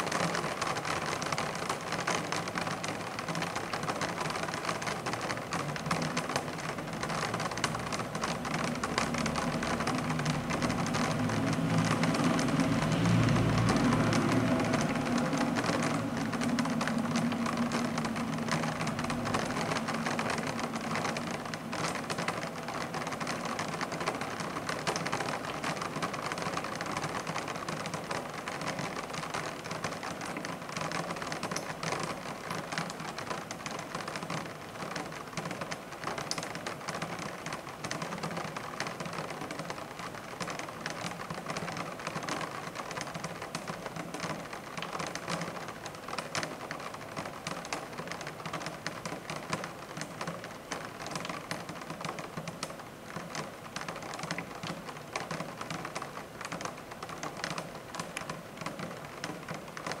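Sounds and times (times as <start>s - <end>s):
raindrops clicking on blinds: 0.0s - 60.0s
steady rain hiss: 0.0s - 60.0s.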